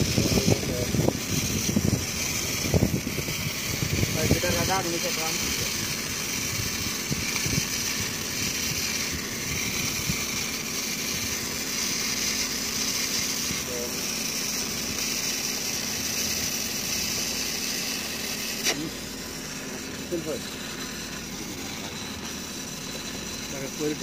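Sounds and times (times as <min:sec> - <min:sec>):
arc welding crackling hiss: 0:00.0 - 0:24.0.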